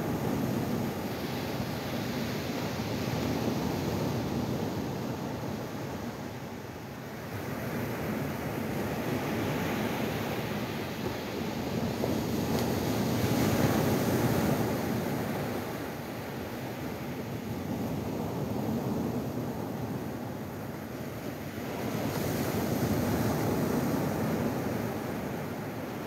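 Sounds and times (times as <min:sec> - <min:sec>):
ocean surf on sandy beach: 0:00.0 - 0:26.0.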